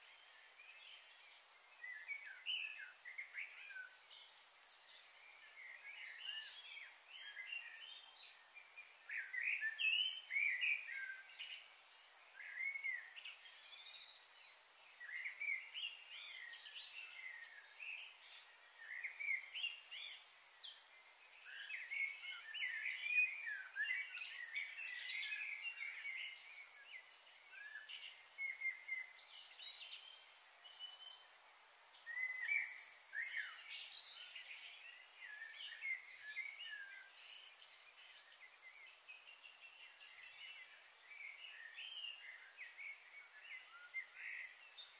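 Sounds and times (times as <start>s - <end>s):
steady high hiss: 0.0s - 44.9s.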